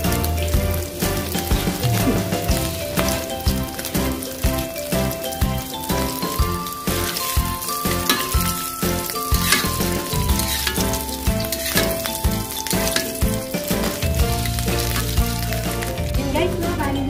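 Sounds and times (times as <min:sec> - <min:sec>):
oil sizzling in a pan: 0:00.0 - 0:16.3
background music: 0:00.0 - 0:17.0.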